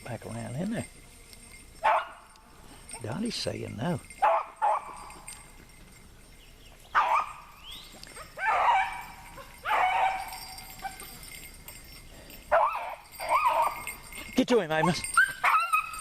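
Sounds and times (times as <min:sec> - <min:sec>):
hound baying: 0:01.3 - 0:16.0.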